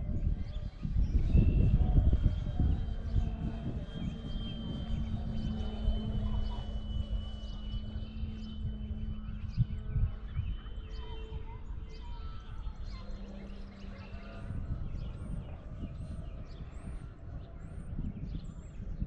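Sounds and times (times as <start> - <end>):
distant model plane drone: 0.0 - 19.0
wind rumble on microphone: 0.0 - 19.0.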